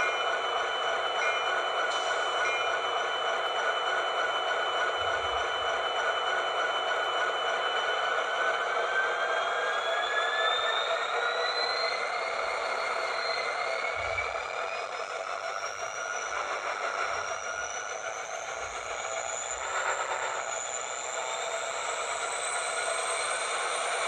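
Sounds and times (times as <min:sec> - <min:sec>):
thin rising whine: 0:00.0 - 0:24.0.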